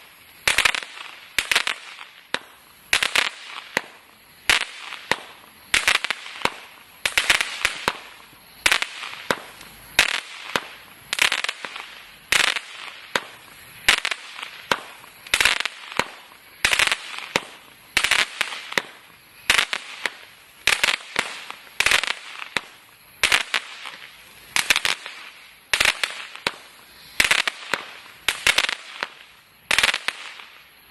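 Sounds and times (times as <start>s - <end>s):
firework bangs: 0.0s - 30.9s
firework crackling: 0.0s - 30.9s.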